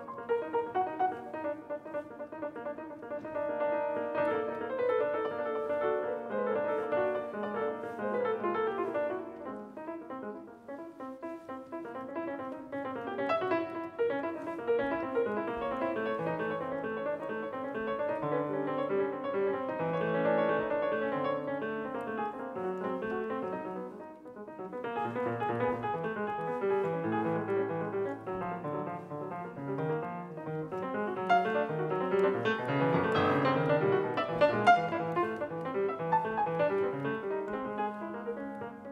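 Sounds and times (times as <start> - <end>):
solo grand piano: 0.0 - 38.9.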